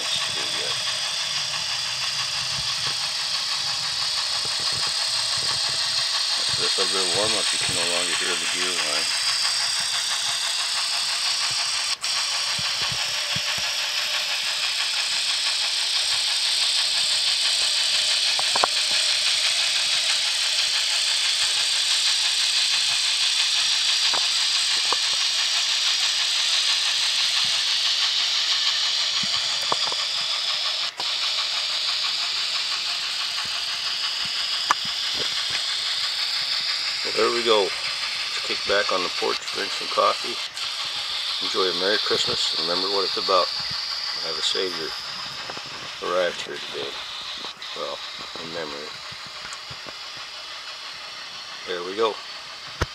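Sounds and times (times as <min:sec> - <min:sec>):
model steam locomotive sound: 0:00.0 - 0:52.9.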